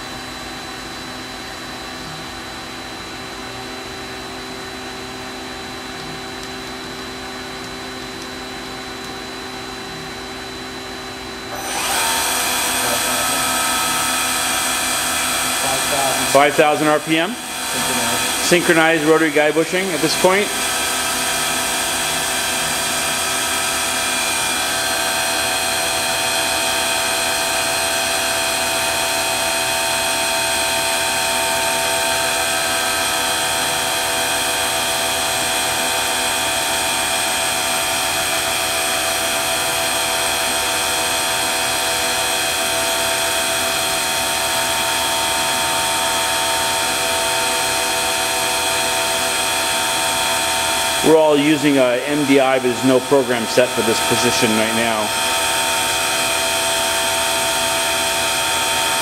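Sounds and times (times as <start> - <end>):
lathe spindle whine: 0.0 - 59.0
mechanical hum: 0.0 - 59.0.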